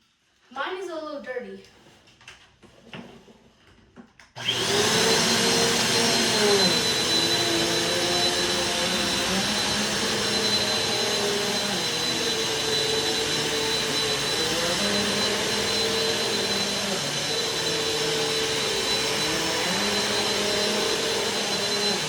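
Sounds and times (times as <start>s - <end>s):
vacuum cleaner motor: 4.2s - 22.0s.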